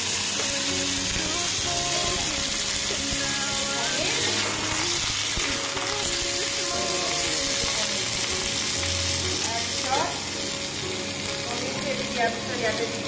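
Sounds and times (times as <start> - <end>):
background music: 0.0 - 13.0
food sizzling in oil: 0.0 - 13.0.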